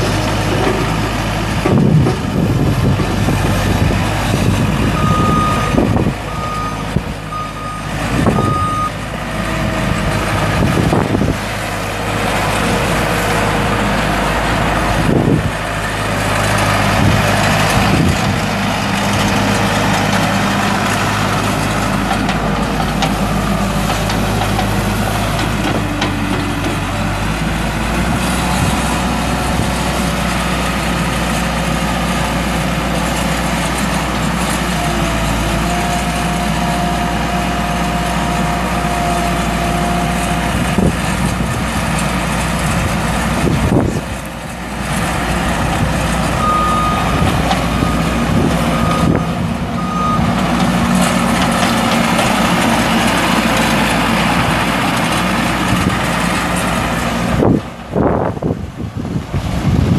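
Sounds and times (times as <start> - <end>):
diesel engine running: 0.0 - 59.9
machine driving on gravel: 0.0 - 59.9.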